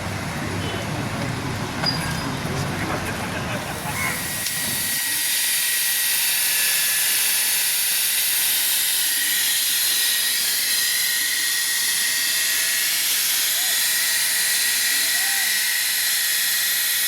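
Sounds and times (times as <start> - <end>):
street noise: 0.0 - 15.9.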